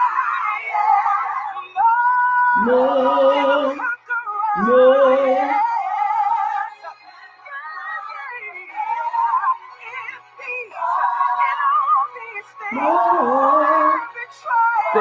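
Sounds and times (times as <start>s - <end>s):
woman singing gospel song: 0.0s - 15.0s.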